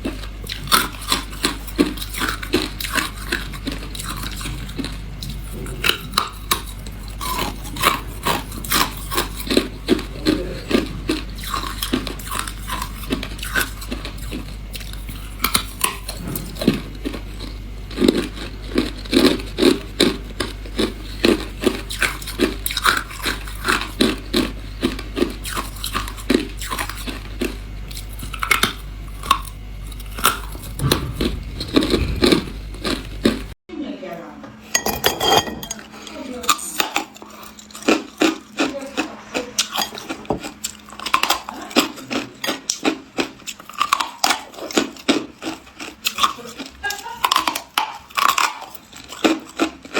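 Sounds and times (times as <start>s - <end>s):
person chewing ice crunching: 0.0s - 33.6s, 36.5s - 49.9s
steady low hum: 0.0s - 47.5s.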